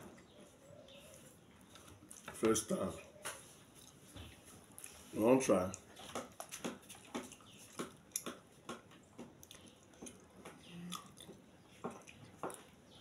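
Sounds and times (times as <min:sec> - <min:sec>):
wet eating smacks and chewing: 0:01.0 - 0:02.6, 0:03.2 - 0:13.0.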